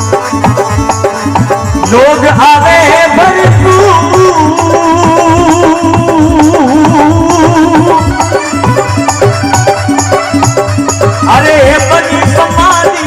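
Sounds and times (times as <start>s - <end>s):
hand drum beat: 0.0s - 13.0s
rattling percussion: 0.0s - 13.0s.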